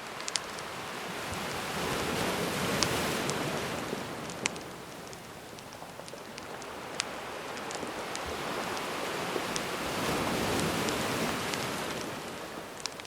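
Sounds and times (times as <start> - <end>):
sea waves washing ashore: 0.0 - 13.0
wood fire crackling: 0.0 - 13.0.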